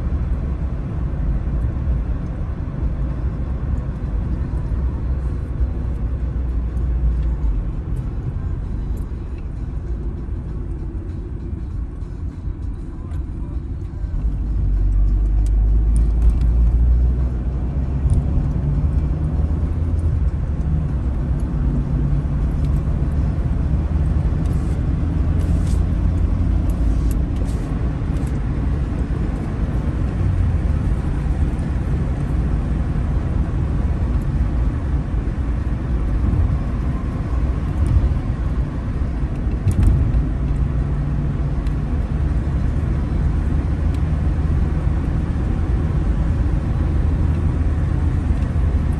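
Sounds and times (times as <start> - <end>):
car engine and tyres rumbling: 0.0 - 48.9.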